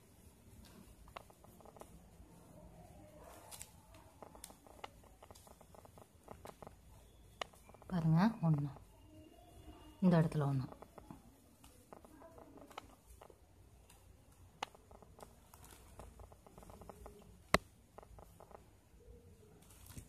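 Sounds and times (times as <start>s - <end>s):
plastic wire rustling and clicking: 0.5s - 8.9s, 10.2s - 18.7s, 19.5s - 20.0s.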